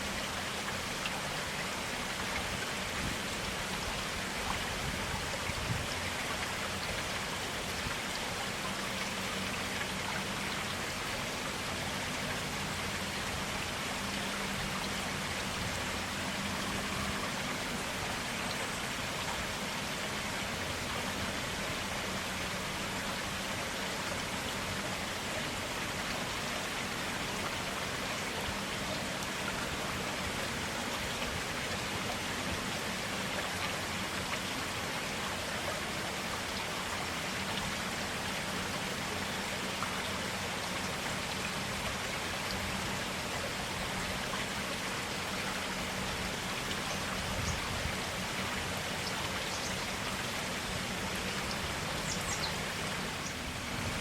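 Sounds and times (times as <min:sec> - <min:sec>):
stream water flowing and splashing: 0:00.0 - 0:54.0.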